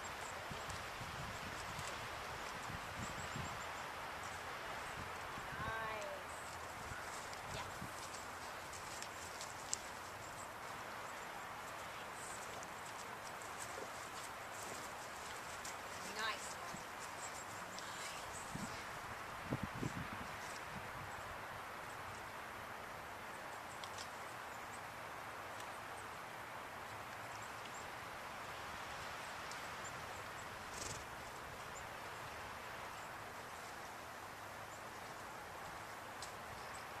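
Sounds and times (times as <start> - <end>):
outdoor ambience hiss: 0.0 - 37.0.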